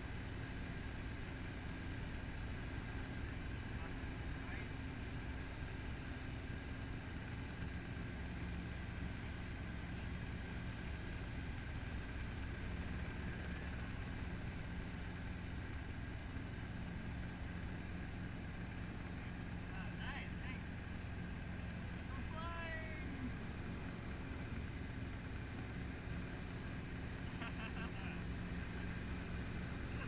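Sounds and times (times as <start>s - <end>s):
helicopter engine and rotor drone: 0.0s - 30.0s.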